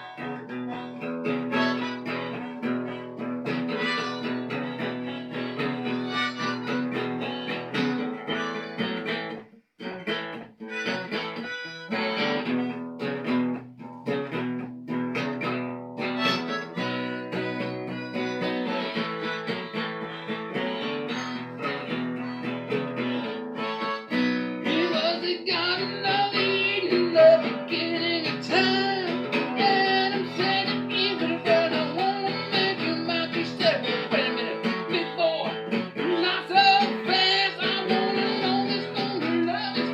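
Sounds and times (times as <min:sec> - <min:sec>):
harmonica bending notes: 0:00.0 - 0:09.4, 0:10.6 - 0:13.6, 0:15.5 - 0:39.9
plucked string instrument blues: 0:00.0 - 0:39.9.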